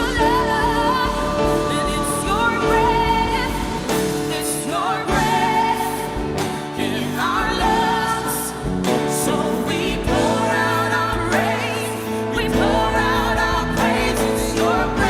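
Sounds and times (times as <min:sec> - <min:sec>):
band playing worship music: 0:00.0 - 0:15.0
person singing lead vocal: 0:00.0 - 0:15.0.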